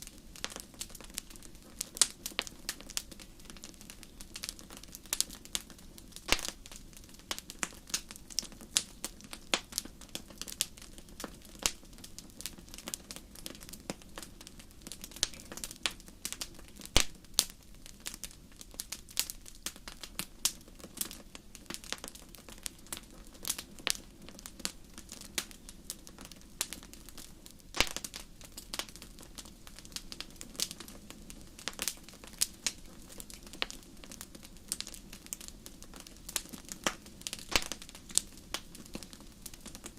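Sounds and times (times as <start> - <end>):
low hiss of burning: 0.0 - 39.9
wood fire crackling: 0.0 - 39.9.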